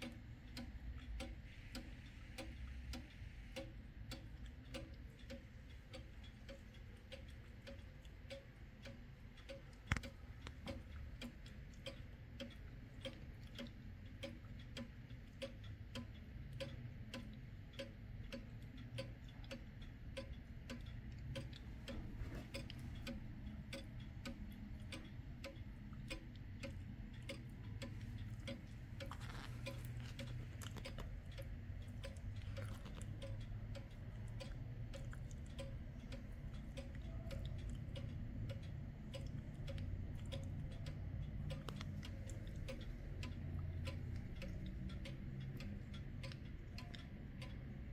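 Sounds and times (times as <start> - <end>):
pendulum clock ticking: 0.0 - 47.9.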